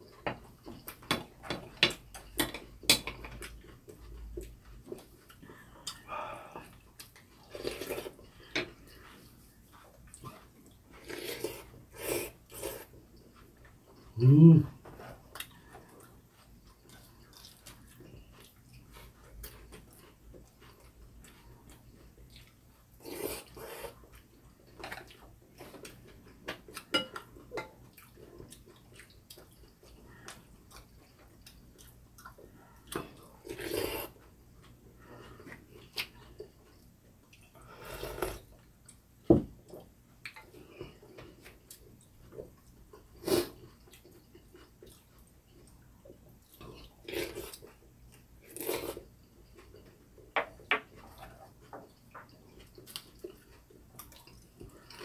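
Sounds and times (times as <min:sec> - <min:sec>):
chewing: 0:02.1 - 0:14.2, 0:14.9 - 0:55.0.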